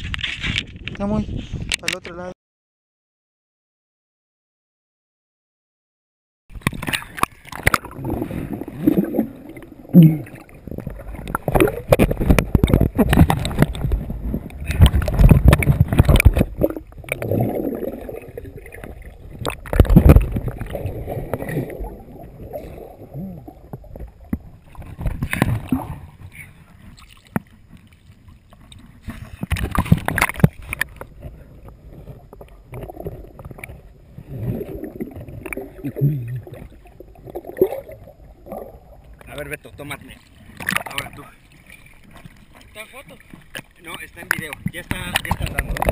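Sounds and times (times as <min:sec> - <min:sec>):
water sloshing and gurgling: 0:00.0 - 0:02.0, 0:06.5 - 0:45.9.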